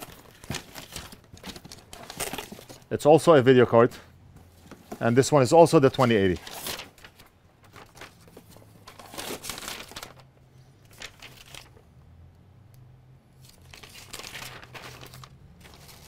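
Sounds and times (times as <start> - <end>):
paper and cardboard rustling: 0.0 - 10.2, 10.9 - 11.8, 13.4 - 16.0.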